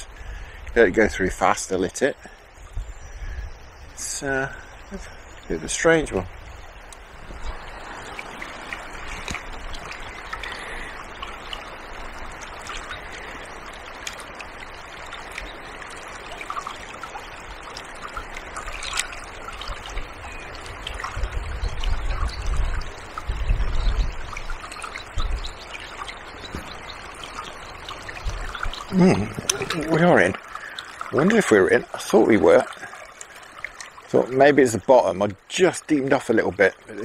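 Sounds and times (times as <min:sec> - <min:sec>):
river water rippling: 0:00.0 - 0:37.0
wind buffeting microphone: 0:02.5 - 0:33.0.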